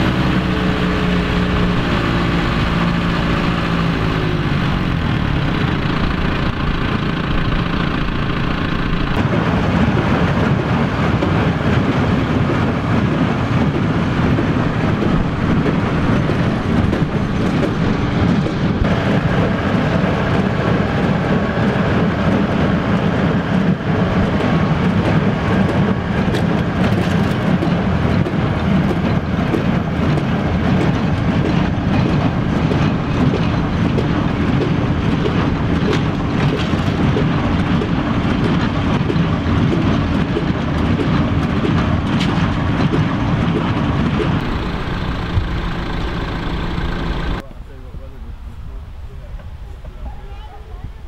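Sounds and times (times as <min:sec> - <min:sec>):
hay baler running: 0:00.0 - 0:48.1
tractor diesel engine: 0:00.0 - 0:51.0.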